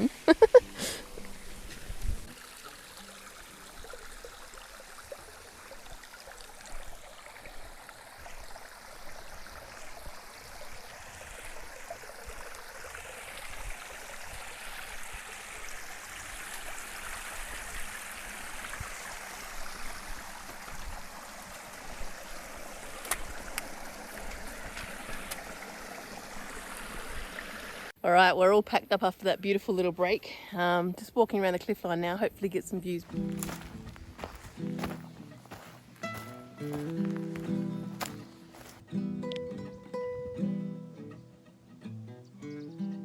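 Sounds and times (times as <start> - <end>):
waterfall and creek running: 0.0 - 28.0, 29.8 - 38.8.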